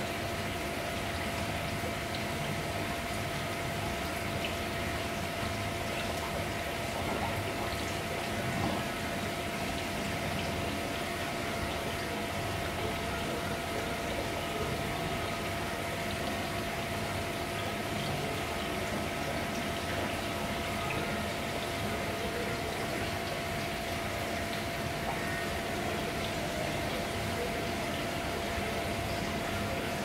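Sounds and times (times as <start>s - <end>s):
bubbling running water: 0.0s - 30.0s.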